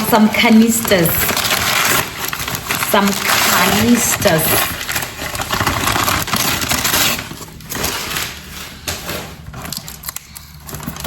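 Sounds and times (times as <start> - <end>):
packing material crinkling: 0.0 - 11.0.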